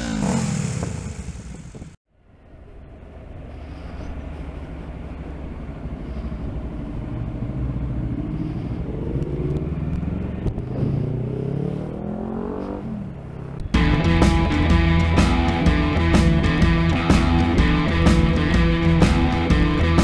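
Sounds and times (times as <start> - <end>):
motorcycle engine accelerating: 0.0 - 2.0, 2.6 - 20.0
gear change: 2.5 - 20.0.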